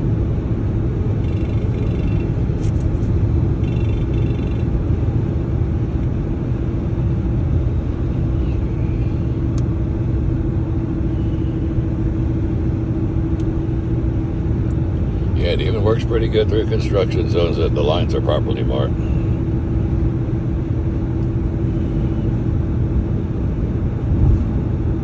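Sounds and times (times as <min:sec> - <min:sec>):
low hum: 0:00.0 - 0:25.0
road and tyre rumble in car: 0:00.0 - 0:25.0.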